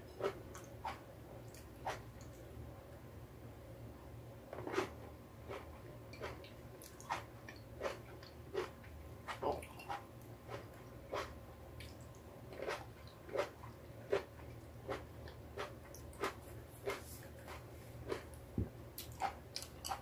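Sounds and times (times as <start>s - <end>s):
person chewing tomatoes: 0.0s - 2.5s, 4.6s - 20.0s
steady low hum: 0.0s - 20.0s.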